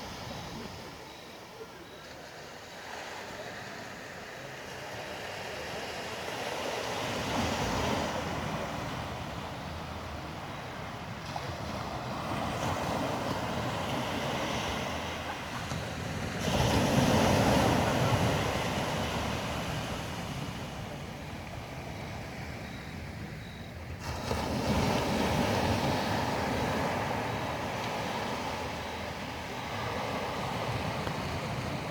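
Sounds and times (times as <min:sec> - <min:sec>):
ocean surf breaking: 0:00.0 - 0:23.4, 0:24.0 - 0:31.9.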